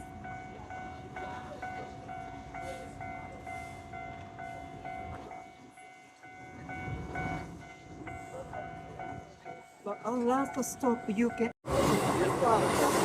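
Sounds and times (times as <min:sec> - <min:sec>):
level crossing warning bell: 0:00.0 - 0:11.6
train rumbling past: 0:00.0 - 0:13.0.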